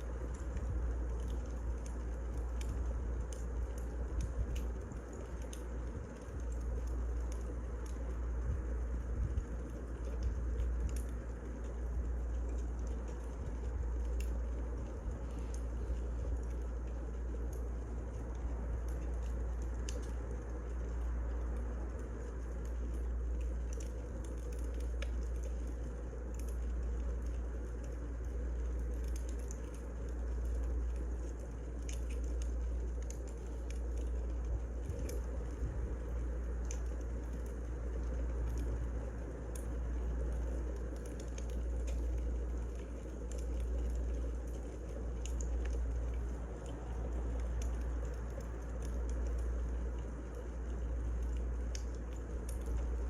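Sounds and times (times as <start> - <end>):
wood fire burning: 0.0 - 53.0.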